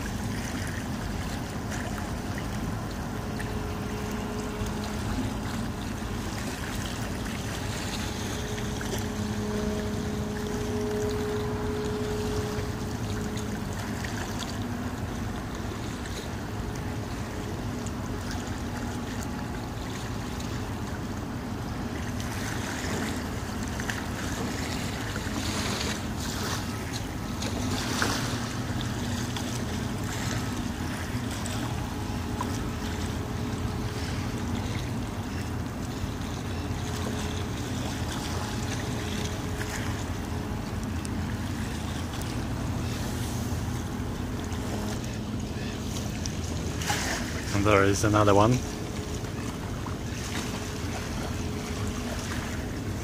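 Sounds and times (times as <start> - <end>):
low steady hum: 0.0 - 53.0
small waves lapping: 0.0 - 53.0.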